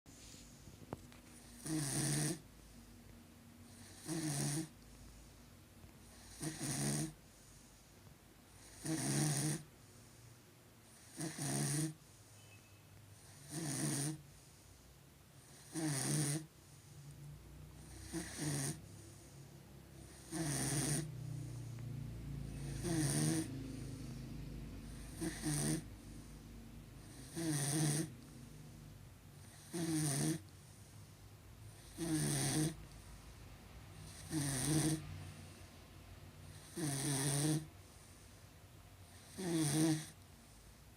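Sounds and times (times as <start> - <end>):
dog snoring: 0.1 - 2.8, 3.7 - 5.3, 6.0 - 7.9, 8.5 - 14.8, 15.4 - 33.0, 34.0 - 35.5, 36.4 - 38.4, 39.1 - 40.7.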